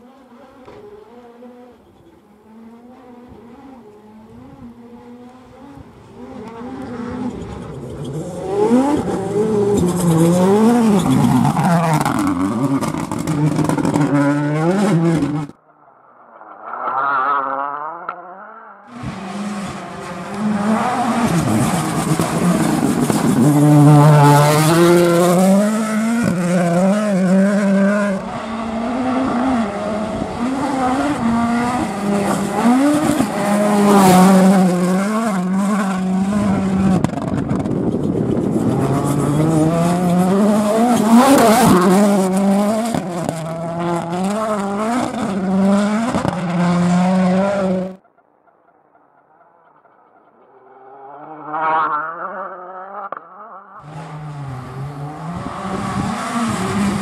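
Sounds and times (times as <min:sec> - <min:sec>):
rally car engine revving: 0:00.0 - 0:15.6, 0:16.4 - 0:48.0, 0:50.3 - 0:57.0.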